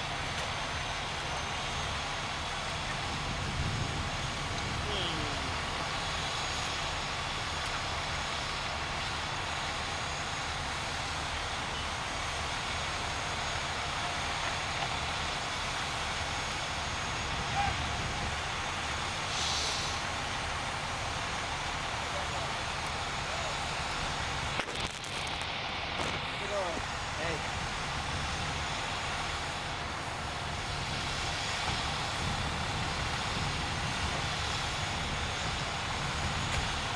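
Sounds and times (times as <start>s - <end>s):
heavy vehicle engine idling: 0.0s - 24.6s, 25.2s - 36.9s
constant hiss: 2.1s - 36.9s.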